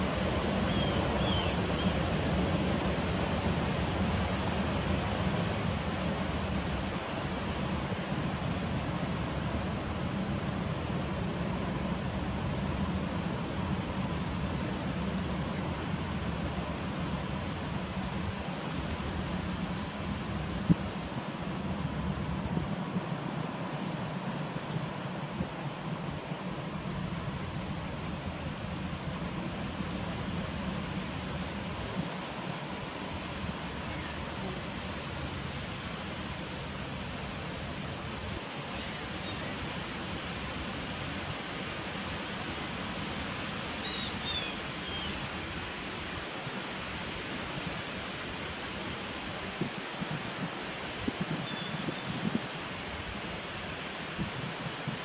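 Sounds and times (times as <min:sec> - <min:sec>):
soft hiss: 0:00.0 - 0:55.0.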